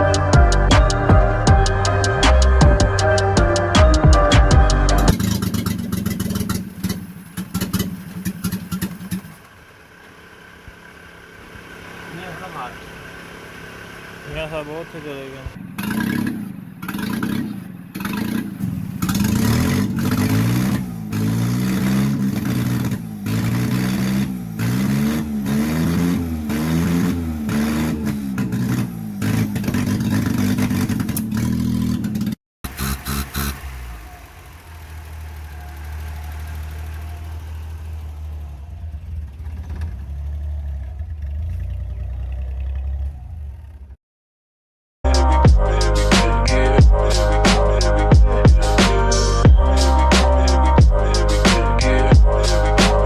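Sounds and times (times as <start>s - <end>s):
car engine revving: 0.0s - 44.0s, 45.1s - 53.0s.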